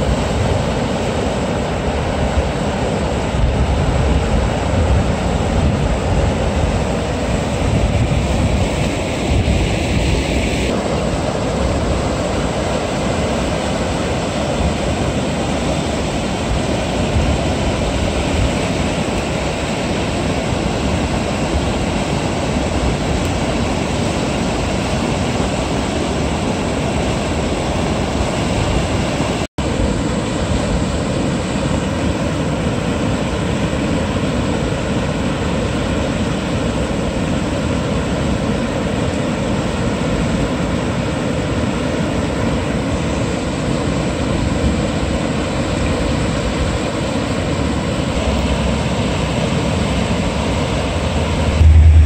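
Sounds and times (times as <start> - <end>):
river water rushing over weir: 0.0 - 52.0.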